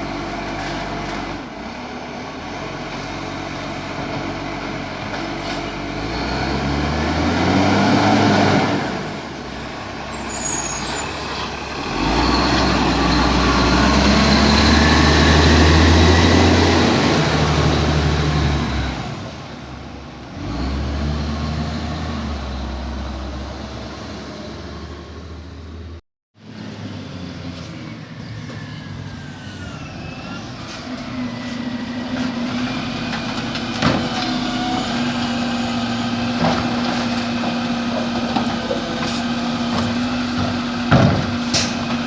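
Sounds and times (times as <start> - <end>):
garbage truck engine revving: 0.2 - 19.6, 20.3 - 25.4, 26.4 - 42.0.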